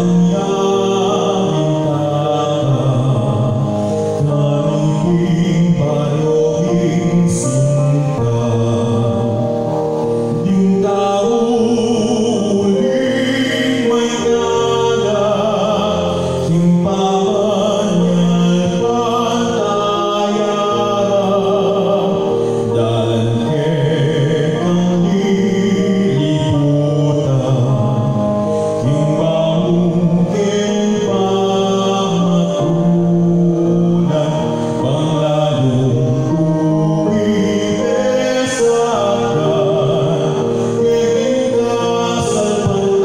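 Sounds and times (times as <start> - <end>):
musical accompaniment: 0.0 - 43.0
person singing devotional song: 0.0 - 43.0.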